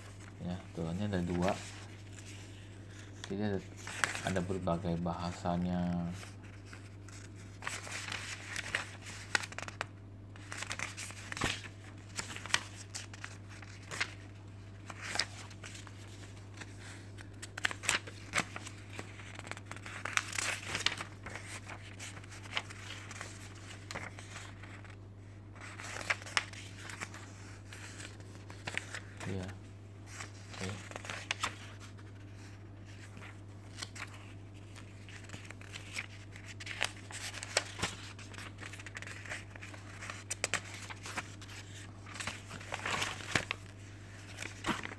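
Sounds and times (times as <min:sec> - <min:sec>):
paper pages rustling: 0:00.0 - 0:44.9.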